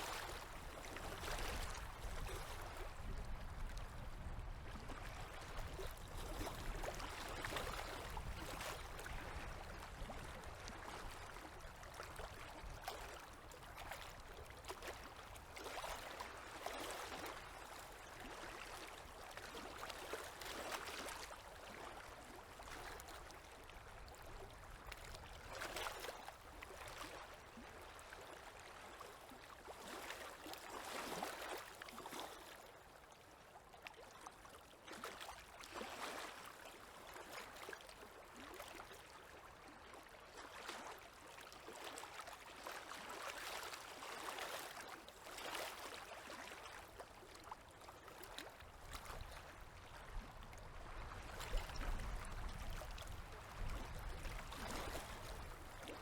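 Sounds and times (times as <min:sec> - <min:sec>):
small waves lapping: 0:00.0 - 0:56.0
soft water splashes: 0:00.0 - 0:56.0.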